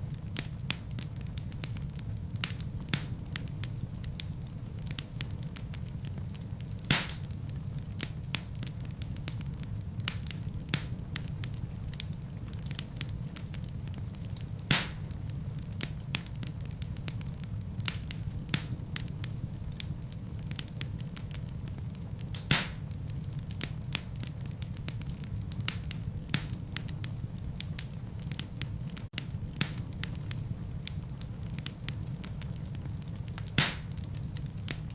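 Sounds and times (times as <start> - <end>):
fire crackling in fireplace: 0.0 - 34.9
loud fire pops: 0.1 - 34.9.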